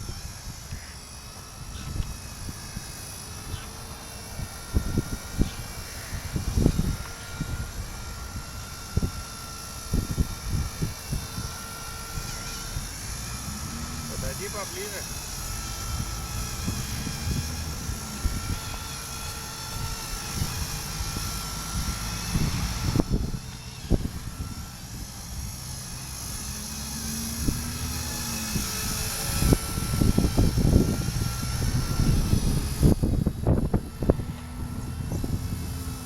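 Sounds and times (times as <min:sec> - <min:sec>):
model helicopter rotor whine: 0:00.0 - 0:36.0
wind buffeting microphone: 0:01.4 - 0:36.0.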